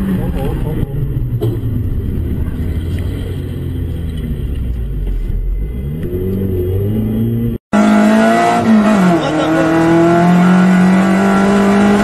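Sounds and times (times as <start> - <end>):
car engine revving: 0.0 - 12.0
road noise inside car: 0.0 - 12.0.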